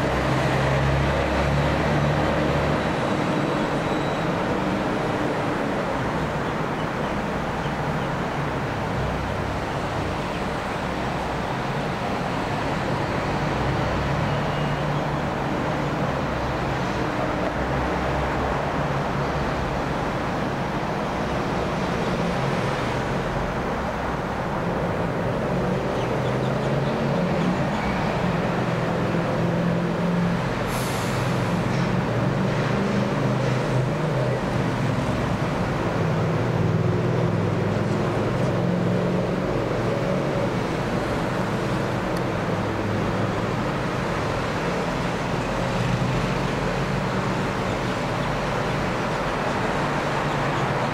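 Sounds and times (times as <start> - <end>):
rumble of engines: 0.0 - 50.9.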